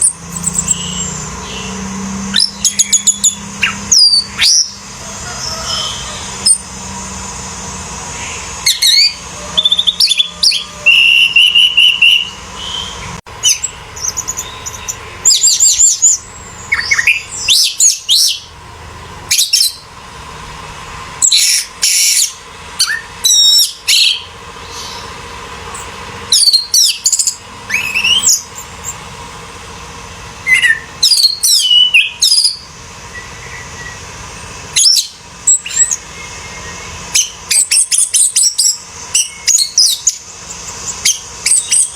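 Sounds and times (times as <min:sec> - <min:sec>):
thrush singing: 0:00.0 - 0:41.9.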